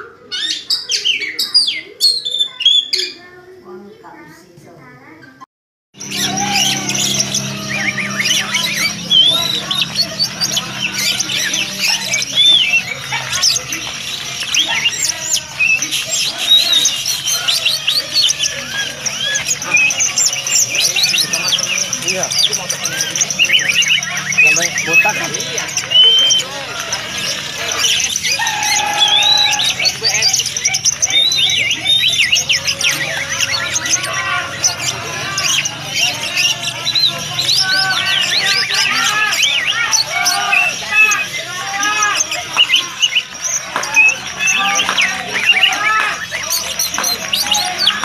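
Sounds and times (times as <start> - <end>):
bird singing whistled notes: 6.0 - 48.0.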